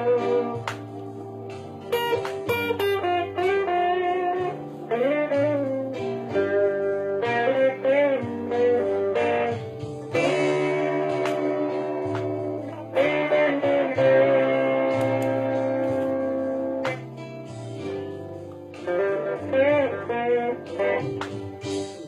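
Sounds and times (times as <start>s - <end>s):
electric guitar lead lines: 0.0s - 22.0s.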